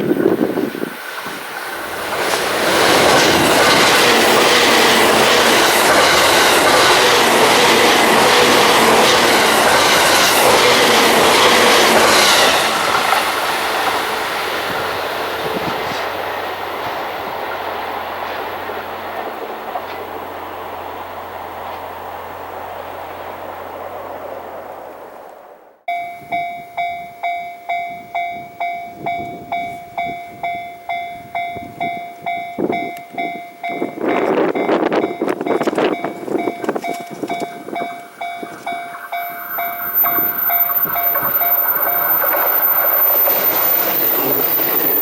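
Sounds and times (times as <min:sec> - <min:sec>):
train passing close by: 0:00.0 - 0:25.6, 0:27.7 - 0:45.0.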